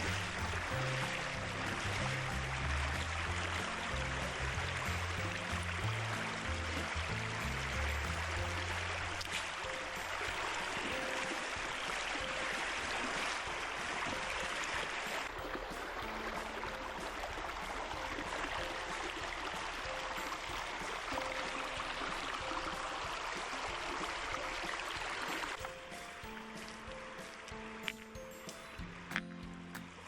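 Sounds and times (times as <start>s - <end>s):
faint music: 0.0s - 30.0s
stream water rushing: 0.0s - 30.0s.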